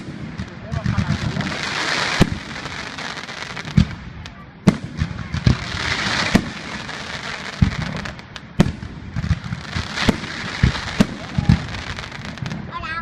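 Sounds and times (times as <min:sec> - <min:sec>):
crackling hiss of fireworks: 0:00.0 - 0:13.0
fireworks bangs: 0:00.0 - 0:13.0.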